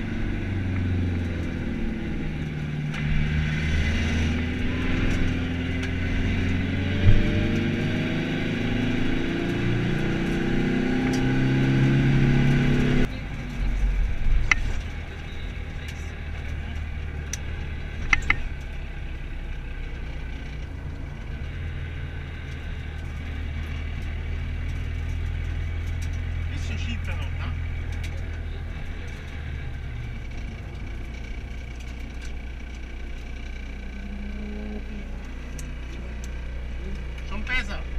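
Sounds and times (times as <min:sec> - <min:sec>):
rally car engine revving: 0:00.0 - 0:37.9.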